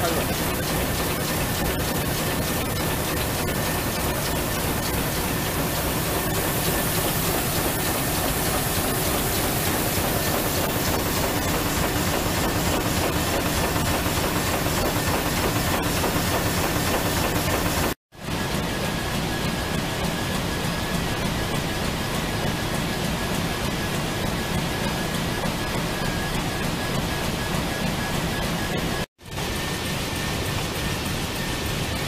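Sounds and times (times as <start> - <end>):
machinery noise and hiss: 0.0 - 18.0, 18.6 - 32.0.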